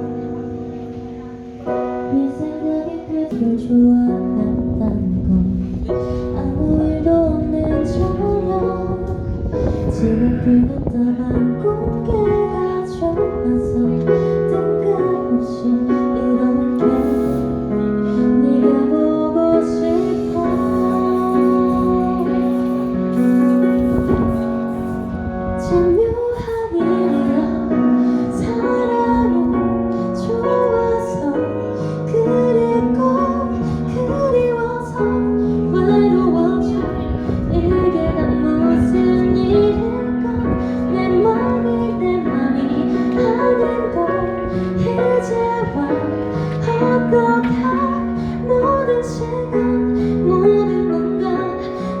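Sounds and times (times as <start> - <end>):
keyboard chords: 0.0 - 52.0
woman singing a ballad: 1.2 - 52.0.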